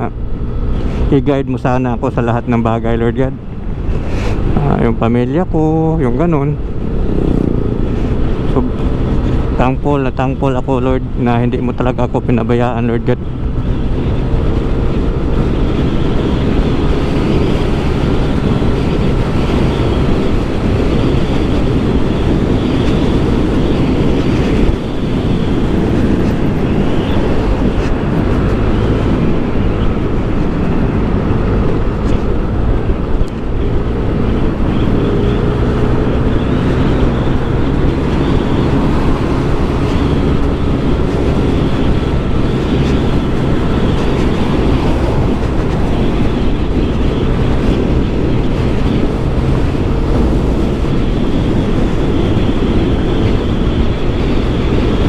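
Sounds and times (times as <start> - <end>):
scooter engine drone: 0.0 - 55.0
wind noise on microphone: 0.0 - 55.0.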